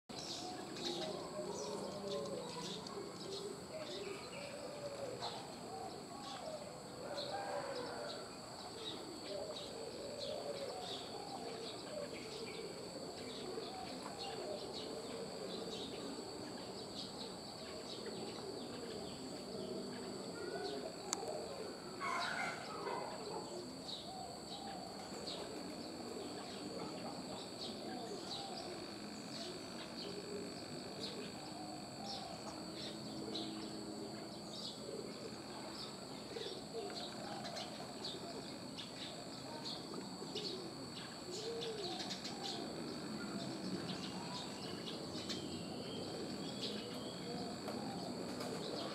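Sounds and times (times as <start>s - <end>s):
birds cooing: 0.1s - 48.9s.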